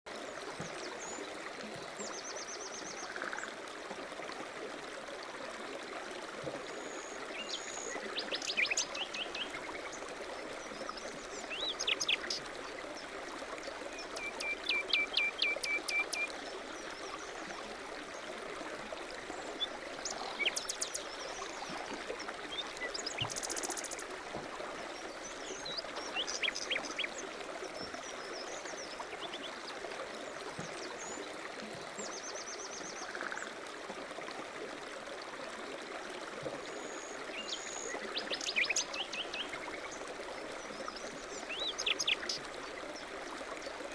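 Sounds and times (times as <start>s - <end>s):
stream running: 0.1s - 43.9s.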